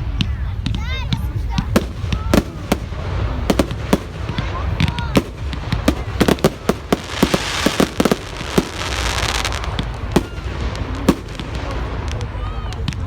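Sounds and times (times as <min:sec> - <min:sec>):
fireworks bangs and pops: 0:00.0 - 0:13.0
fireworks crackling hiss: 0:00.0 - 0:13.0.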